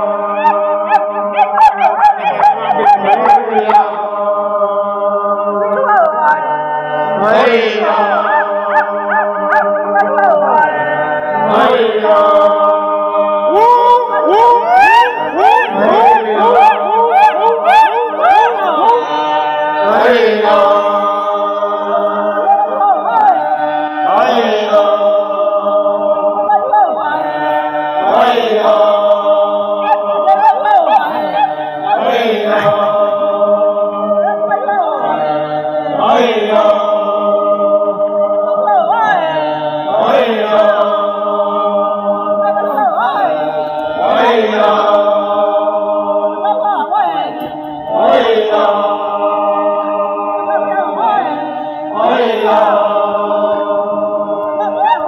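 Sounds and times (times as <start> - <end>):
men chanting together: 0.0 - 55.0.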